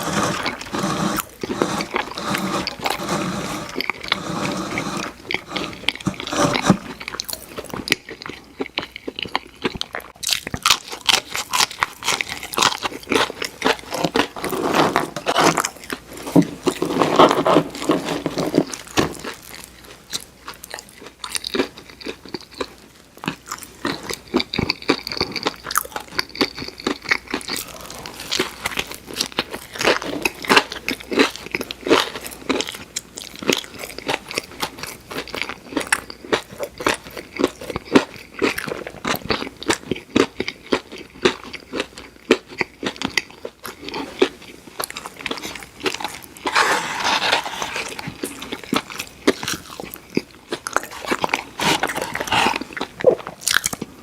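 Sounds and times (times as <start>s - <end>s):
person chewing crispy food: 0.0s - 54.0s.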